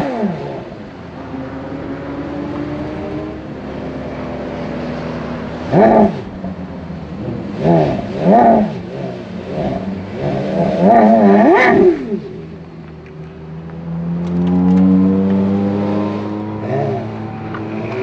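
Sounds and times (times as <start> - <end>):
car engine revving and idling: 0.0 - 18.0.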